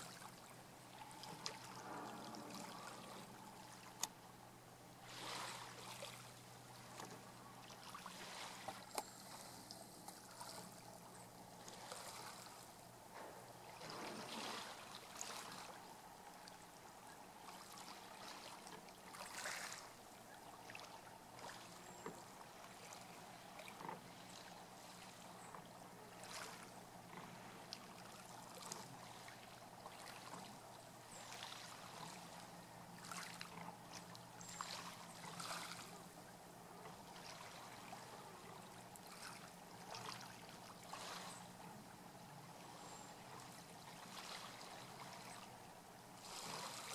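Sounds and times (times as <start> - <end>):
low steady hum: 0.0 - 46.9
oars swishing through water: 0.0 - 46.9.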